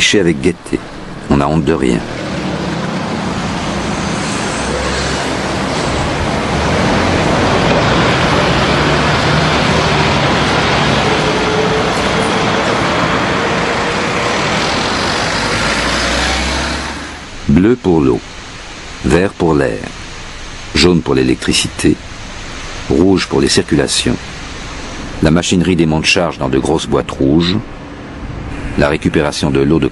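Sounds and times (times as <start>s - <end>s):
street traffic passing: 0.0s - 29.9s.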